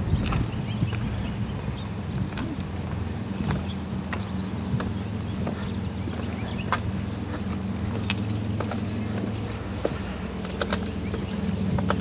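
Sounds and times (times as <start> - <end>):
footsteps on stone steps: 0.0 - 12.0
low hum: 0.0 - 12.0.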